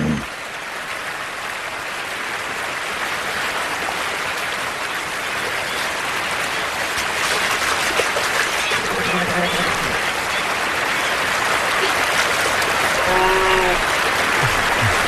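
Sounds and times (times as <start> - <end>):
creek rushing and splashing: 0.2 - 15.0.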